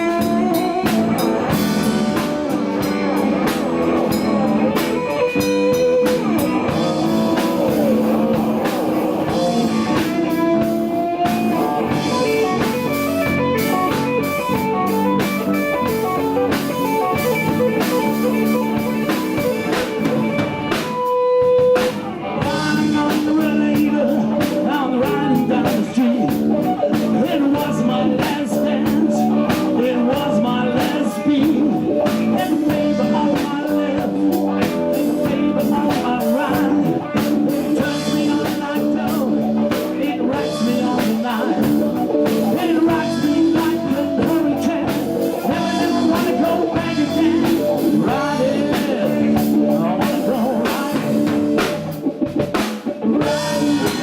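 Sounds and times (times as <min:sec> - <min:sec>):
blues-rock band playing: 0:00.0 - 0:54.0
electric guitar lines: 0:00.0 - 0:54.0.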